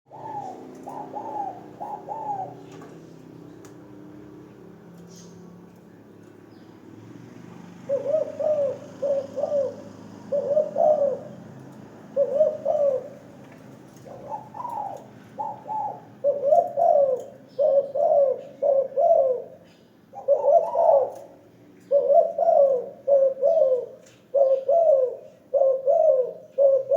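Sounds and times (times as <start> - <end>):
dove cooing: 0.1 - 6.7, 7.6 - 26.9.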